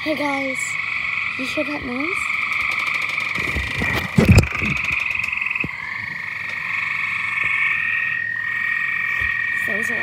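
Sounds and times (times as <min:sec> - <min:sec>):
frogs trilling: 0:00.0 - 0:10.0.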